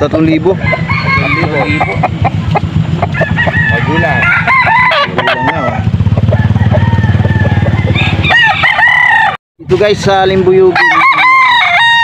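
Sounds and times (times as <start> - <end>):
roosters crowing and clucking: 0.0 - 9.4, 10.5 - 12.0.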